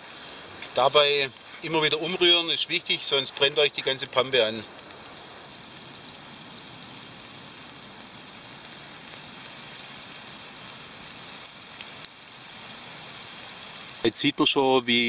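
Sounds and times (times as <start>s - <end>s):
syrup boiling in a pan: 0.0s - 15.0s
wood fire crackling: 0.0s - 15.0s.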